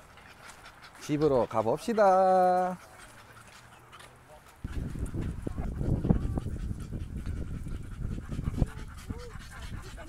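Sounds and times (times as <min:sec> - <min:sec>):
dog snorting and panting: 0:00.0 - 0:10.0.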